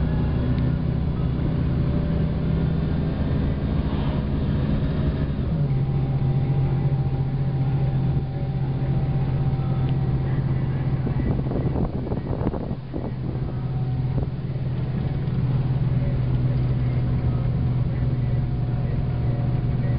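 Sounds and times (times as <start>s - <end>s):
car engine and road noise: 0.0s - 19.9s.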